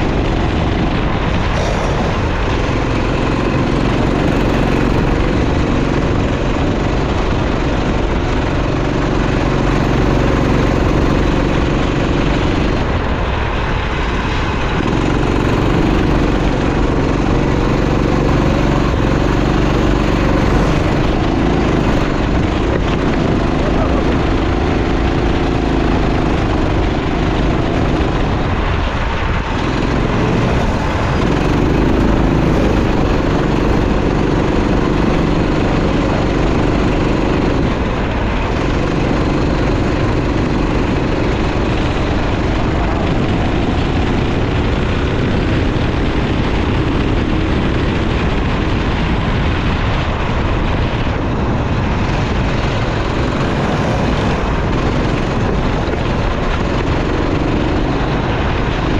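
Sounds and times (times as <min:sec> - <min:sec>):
go-kart engine running hard: 0:00.0 - 0:58.9
wind and track noise: 0:00.0 - 0:58.9.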